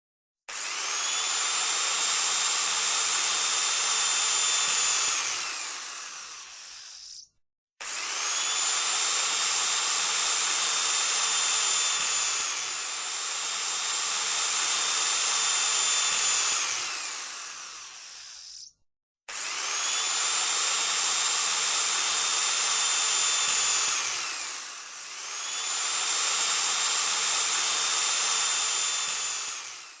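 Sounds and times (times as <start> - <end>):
power drill whining: 0.5 - 30.0.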